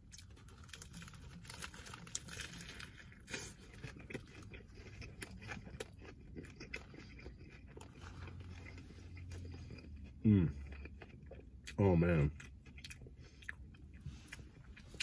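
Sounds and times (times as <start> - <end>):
chewing with small crunches: 0.0 - 15.0.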